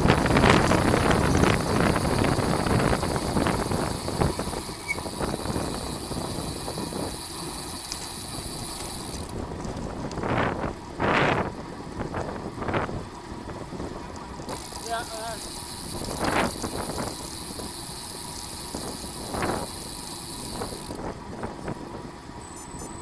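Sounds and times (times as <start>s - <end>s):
wind rushing over microphone: 0.0s - 7.5s, 8.2s - 17.8s, 18.6s - 22.2s
bicycle mechanical clicks: 0.0s - 23.0s.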